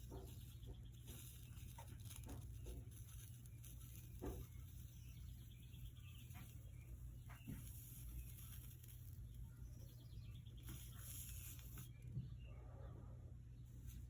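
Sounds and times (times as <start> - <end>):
solder sizzling: 0.0 - 12.2, 13.6 - 14.0
low steady hum: 0.0 - 14.0.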